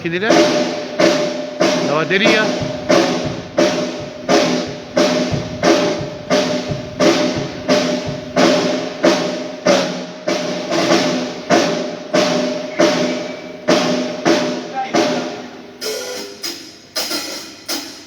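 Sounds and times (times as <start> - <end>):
drum hits: 0.0 - 18.0.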